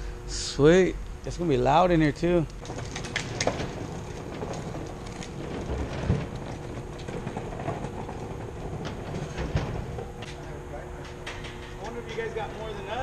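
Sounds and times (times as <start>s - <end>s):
wheeled equipment rattling rumble: 1.3s - 13.0s.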